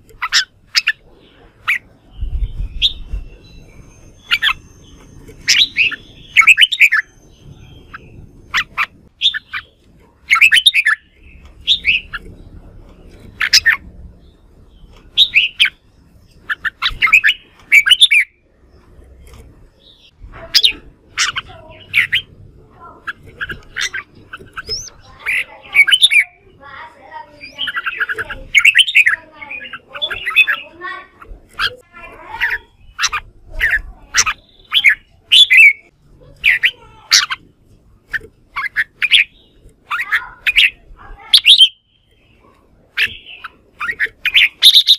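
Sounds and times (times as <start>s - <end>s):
bird singing chattering phrases: 0.0s - 44.9s.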